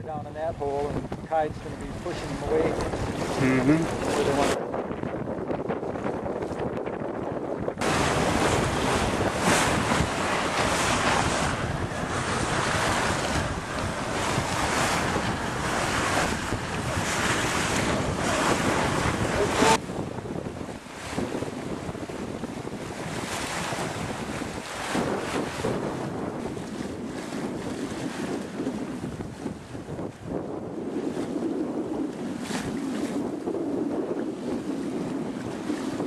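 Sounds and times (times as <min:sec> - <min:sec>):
water rushing past hull: 0:00.0 - 0:36.0
wind buffeting microphone: 0:00.0 - 0:36.0.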